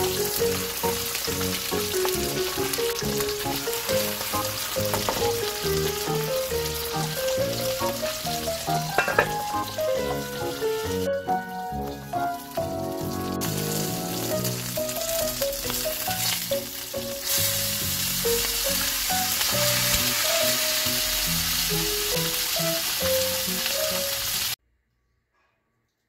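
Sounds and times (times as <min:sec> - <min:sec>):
background music: 0:00.0 - 0:24.5
fish sizzling in a frying pan: 0:00.0 - 0:24.6.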